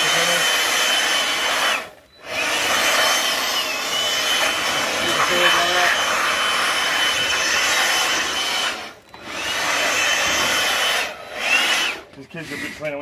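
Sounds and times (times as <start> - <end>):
handheld blower whining: 0.0 - 13.0.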